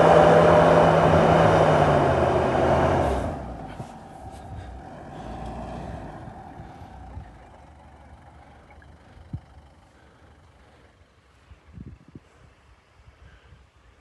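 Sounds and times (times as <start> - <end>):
off-road vehicle engine running: 0.0 - 12.6.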